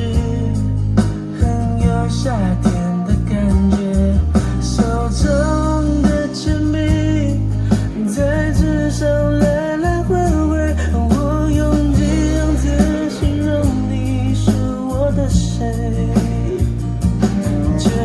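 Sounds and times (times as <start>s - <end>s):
pop song over speaker: 0.0s - 18.0s.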